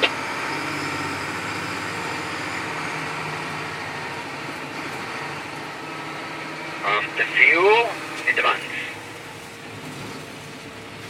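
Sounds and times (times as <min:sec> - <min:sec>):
diesel truck engine humming: 0:00.0 - 0:11.0.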